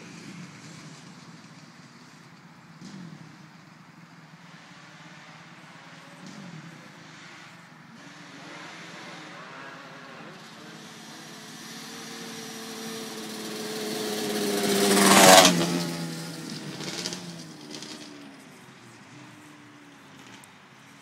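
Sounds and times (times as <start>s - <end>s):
quad bike engine passing: 0.0s - 21.0s.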